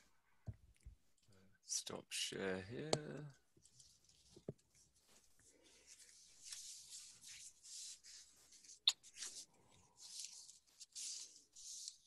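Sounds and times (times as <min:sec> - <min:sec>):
faint rustling hiss: 0:00.8 - 0:12.0.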